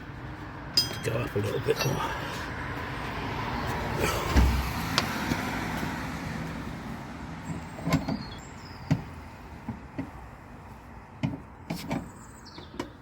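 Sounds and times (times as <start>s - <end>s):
road vehicle passing by: 0.0s - 11.6s.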